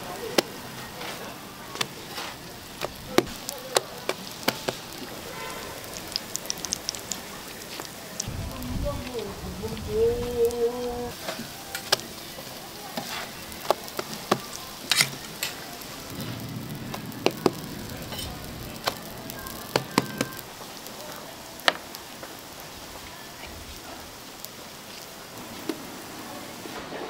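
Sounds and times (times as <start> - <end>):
food sizzling on a griddle: 0.0 - 27.0.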